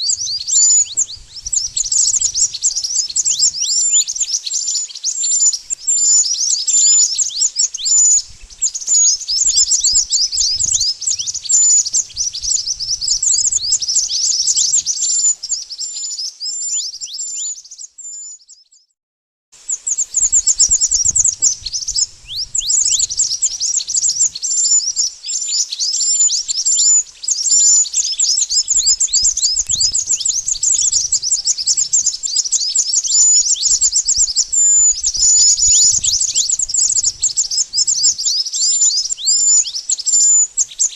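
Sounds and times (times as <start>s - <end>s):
birds chirping and twittering: 0.0s - 18.9s, 19.6s - 40.9s.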